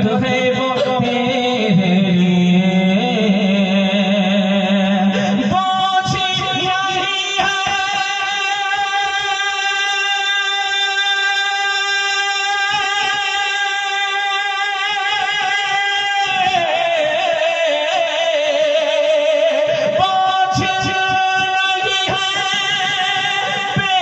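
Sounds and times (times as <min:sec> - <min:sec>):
person singing wordless notes: 0:00.0 - 0:24.0.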